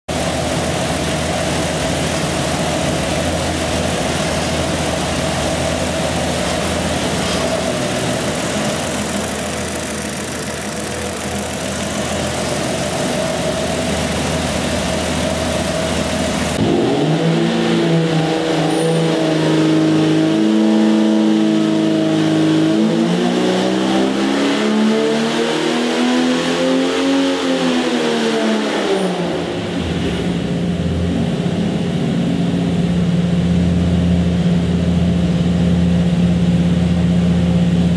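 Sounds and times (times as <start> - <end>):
engine running on a dyno: 0.1 - 37.9.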